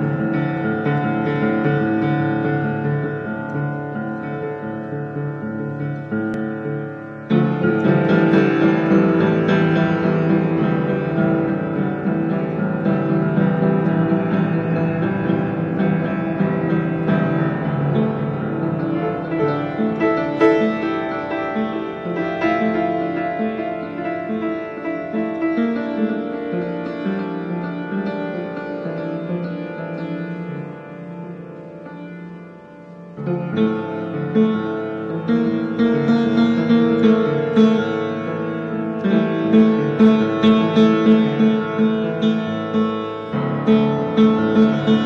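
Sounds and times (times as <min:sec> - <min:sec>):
piano chords and notes: 0:00.0 - 0:45.0.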